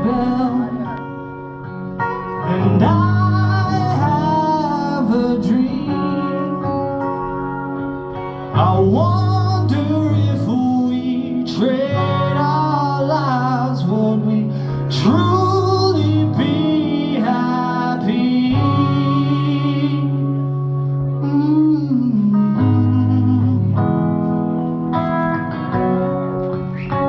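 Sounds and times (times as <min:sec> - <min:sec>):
person singing: 0:00.0 - 0:24.7
guitar: 0:00.0 - 0:27.0.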